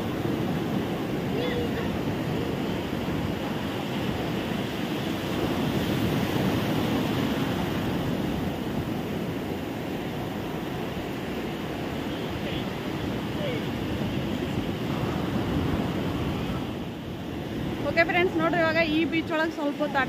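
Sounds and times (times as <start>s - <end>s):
waves on a beach: 0.0s - 20.0s
wind rumble on microphone: 0.0s - 20.0s.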